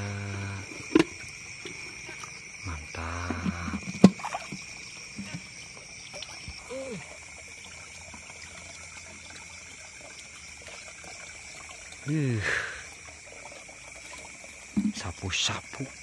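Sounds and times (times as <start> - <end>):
night insects droning: 0.0 - 16.0
water trickling and splashing: 0.0 - 16.0.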